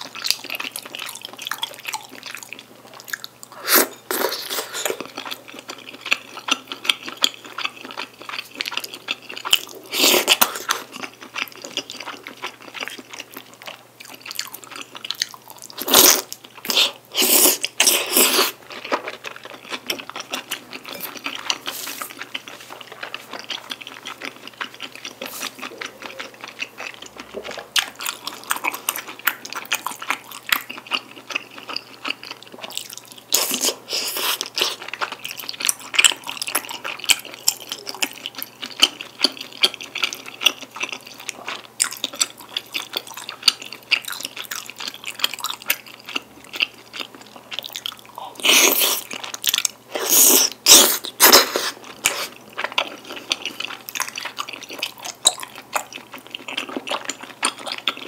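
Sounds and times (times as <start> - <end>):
wet chewing: 0.0 - 58.0.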